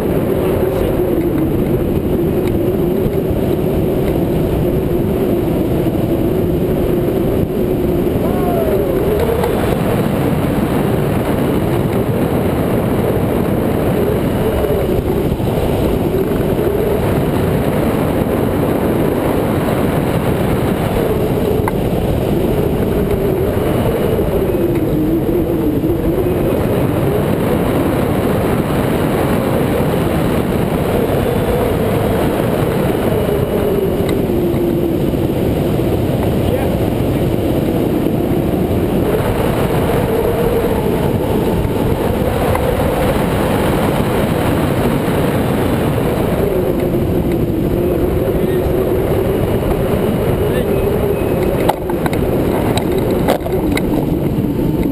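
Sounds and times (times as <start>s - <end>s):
airflow rushing over camera: 0.0s - 54.9s.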